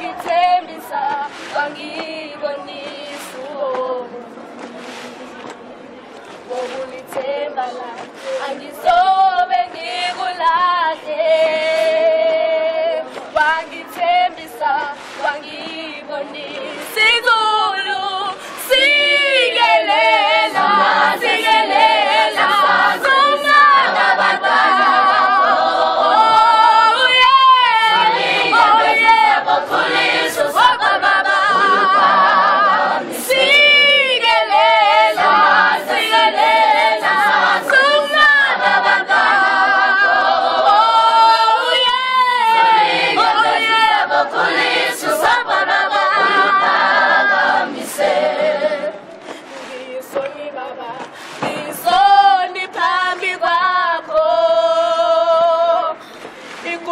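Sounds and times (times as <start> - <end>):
choir singing a cappella: 0.0 - 4.3, 6.5 - 56.0.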